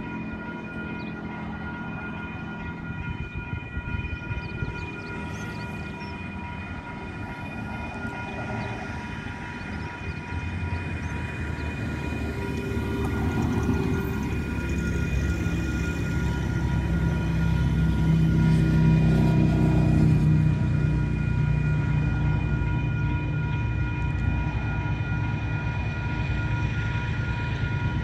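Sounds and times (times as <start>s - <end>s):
diesel train rumbling: 0.0s - 28.0s.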